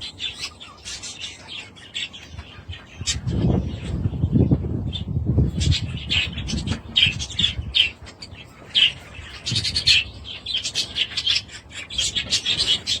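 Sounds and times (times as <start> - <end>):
budgerigars chirping and squawking: 0.0 - 13.0.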